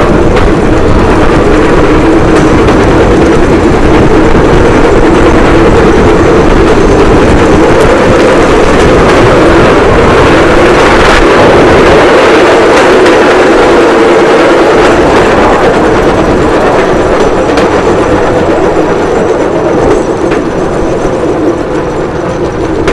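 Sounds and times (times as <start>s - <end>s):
rail trolley drone and rattle: 0.0s - 22.9s
wheels clicking over rail joints: 0.0s - 22.9s.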